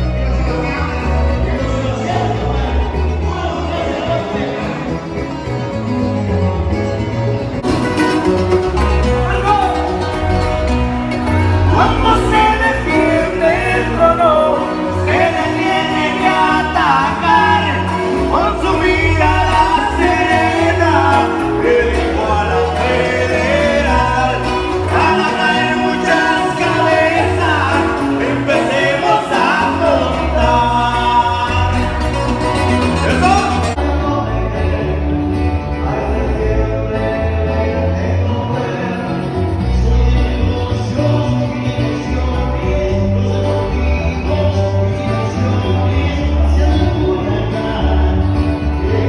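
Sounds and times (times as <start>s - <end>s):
man singing: 0.0s - 6.3s, 7.6s - 49.0s
acoustic guitar: 0.0s - 49.0s
electric bass: 0.0s - 49.0s.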